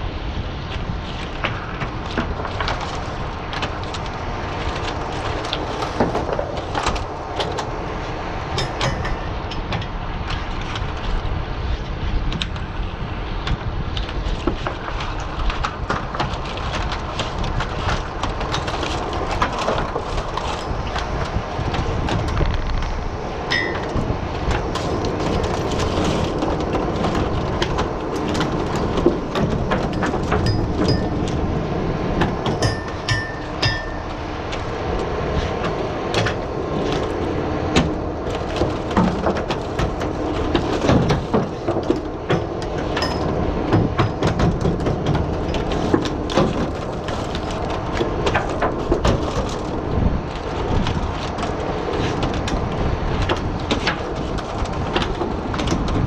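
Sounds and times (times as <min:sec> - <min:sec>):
boat engine running: 0:00.4 - 0:56.0.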